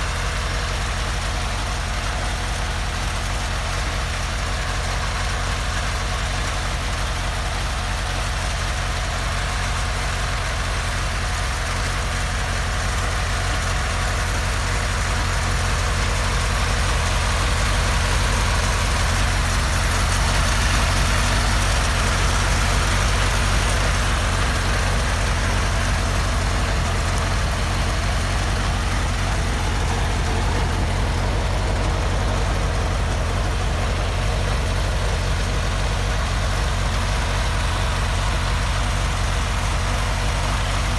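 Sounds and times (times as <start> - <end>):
helicopter engine idling: 0.0 - 40.9.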